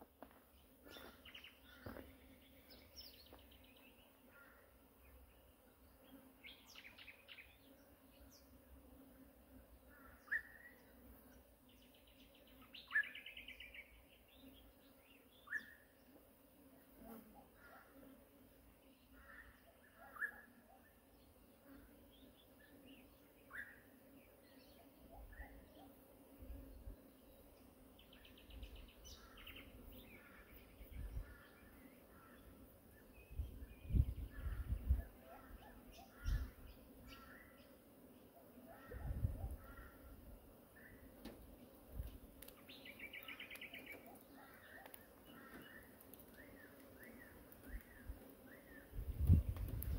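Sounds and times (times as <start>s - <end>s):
faint birdsong chirps: 0.3s - 49.9s.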